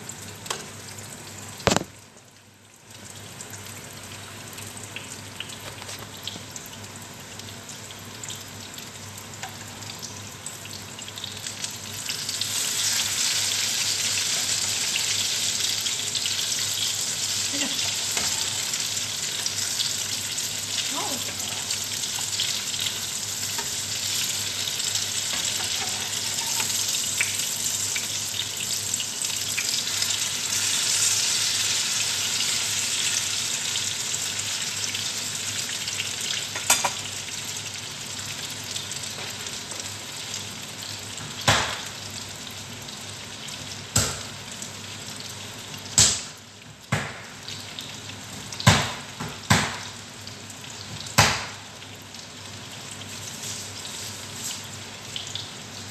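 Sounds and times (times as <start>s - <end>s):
food sizzling in hot oil: 2.8s - 55.9s.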